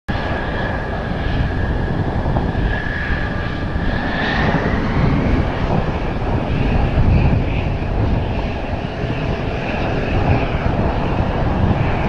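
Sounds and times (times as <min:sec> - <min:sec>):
jet engine whine: 0:00.1 - 0:12.0
wind buffeting microphone: 0:00.1 - 0:12.0.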